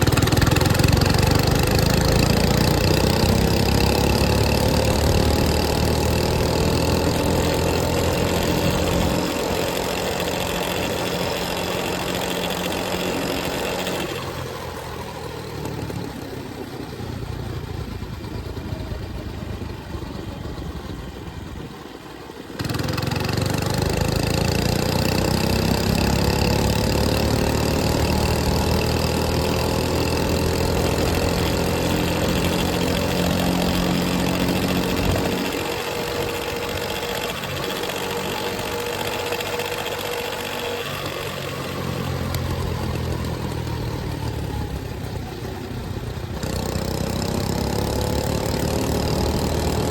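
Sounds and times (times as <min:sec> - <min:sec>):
mini bike engine revving: 0:00.0 - 0:49.9.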